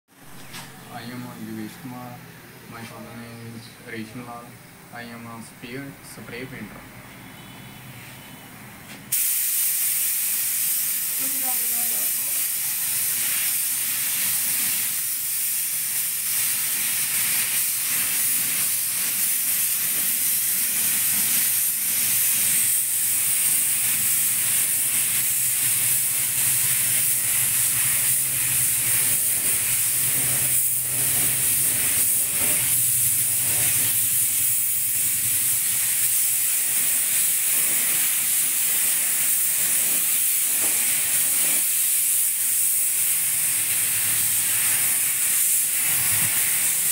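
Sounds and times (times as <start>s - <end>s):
spray gun hissing: 9.1s - 46.9s.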